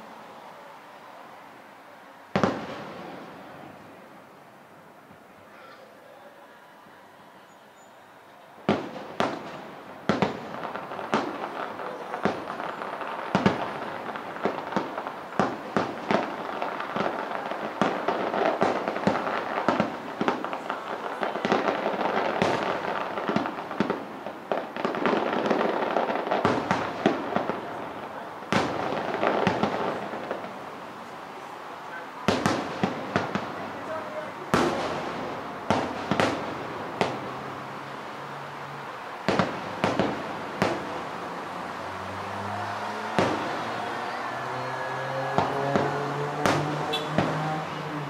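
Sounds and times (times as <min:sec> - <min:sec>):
fireworks crackle: 0:00.0 - 0:05.4, 0:07.9 - 0:48.0
fireworks booming: 0:02.3 - 0:04.2, 0:08.6 - 0:48.0.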